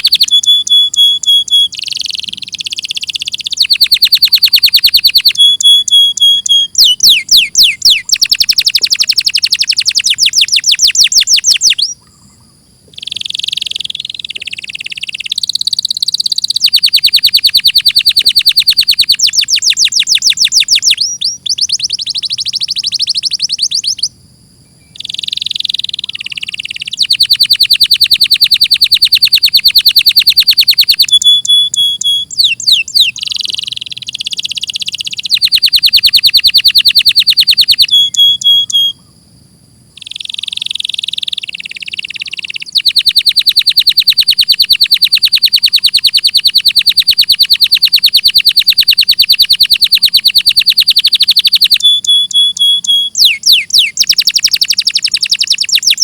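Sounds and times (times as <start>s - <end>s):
canary singing: 0.0s - 39.2s, 39.9s - 56.0s.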